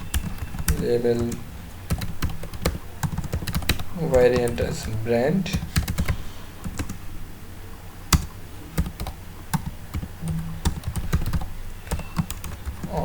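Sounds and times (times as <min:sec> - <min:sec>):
typing on a keyboard: 0:00.0 - 0:07.0, 0:08.1 - 0:13.0.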